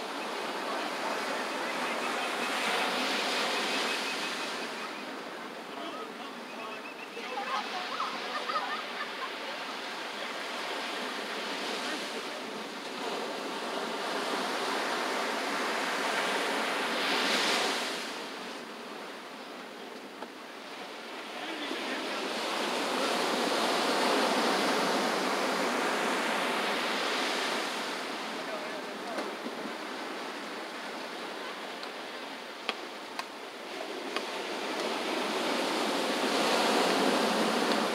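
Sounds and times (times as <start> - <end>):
ocean waves breaking on beach: 0.0 - 37.9.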